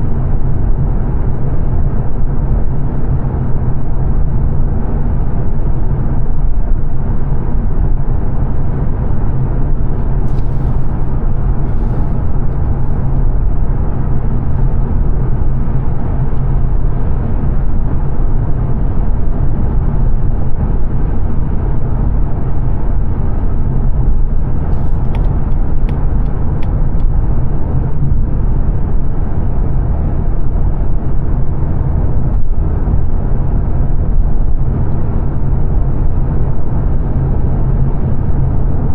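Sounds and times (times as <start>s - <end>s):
engine drone: 0.0s - 38.9s
road and tyre noise: 0.0s - 38.9s.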